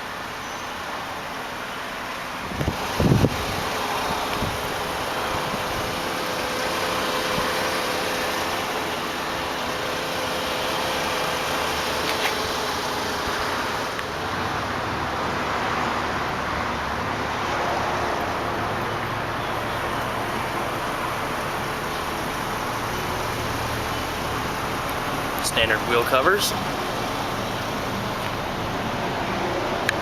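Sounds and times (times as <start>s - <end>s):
car engine idling: 1.0s - 17.4s, 18.1s - 30.0s.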